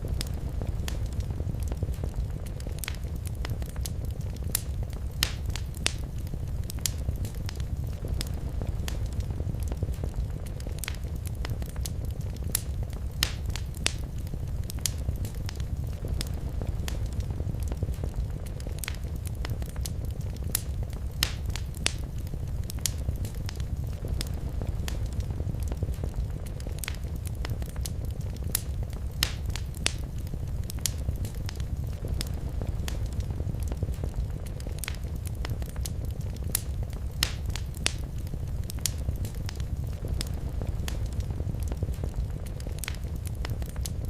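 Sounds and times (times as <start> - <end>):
low rumble of flames: 0.0 - 44.0
sharp pops and snaps: 0.0 - 44.0
wood fire crackling: 0.0 - 44.0.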